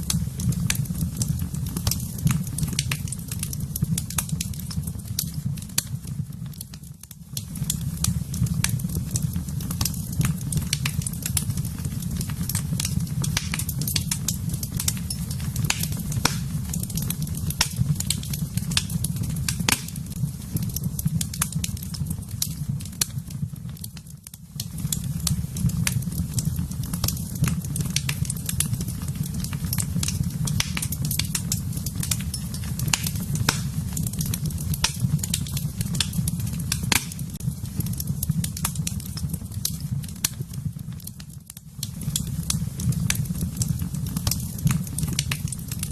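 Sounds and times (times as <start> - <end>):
flames rumbling: 0.0 - 45.9
wood fire crackling and popping: 0.0 - 45.9.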